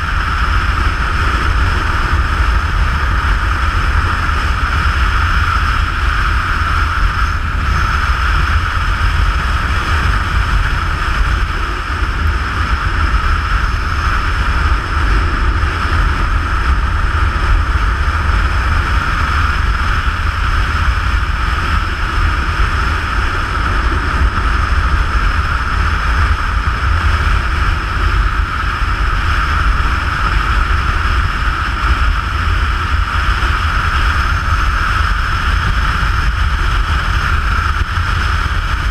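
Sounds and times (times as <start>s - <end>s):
motorcycle engine cruising: 0.0s - 38.9s
wind buffeting microphone: 0.0s - 38.9s.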